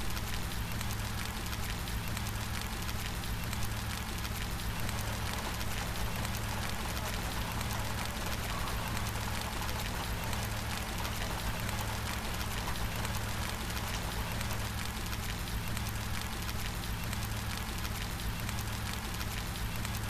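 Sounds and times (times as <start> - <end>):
steady low hum: 0.0 - 20.0
steady rain falling: 0.0 - 20.0.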